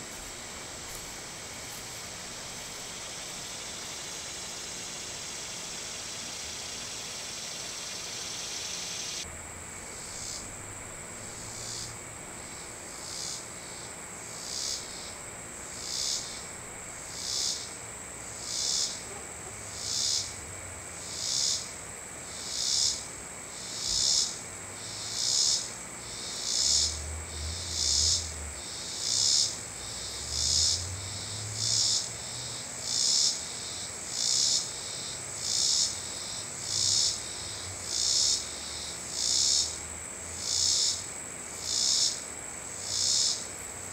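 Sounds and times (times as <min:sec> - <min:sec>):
insect high trill: 0:00.0 - 0:19.0, 0:19.7 - 0:20.4, 0:21.0 - 0:43.6
insect buzzing pulsed call: 0:00.0 - 0:43.9.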